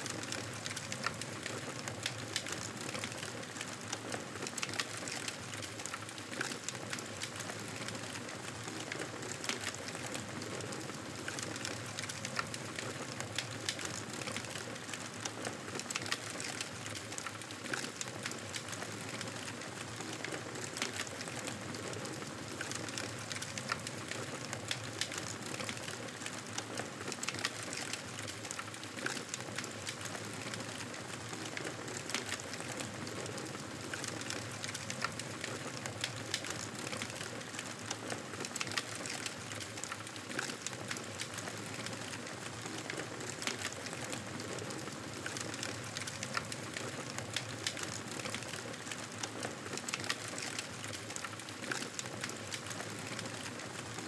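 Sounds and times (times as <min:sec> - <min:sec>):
campfire crackling and popping: 0:00.1 - 0:53.6.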